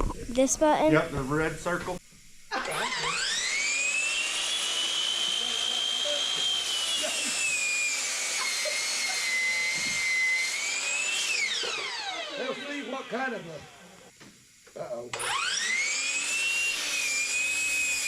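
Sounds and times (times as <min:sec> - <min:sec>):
electric motor whining: 0:00.9 - 0:14.2, 0:15.2 - 0:18.0.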